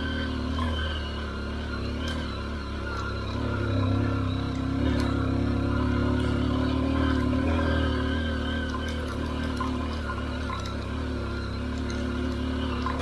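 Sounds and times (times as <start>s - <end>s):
motorcycle engine climbing: 0.0s - 13.0s.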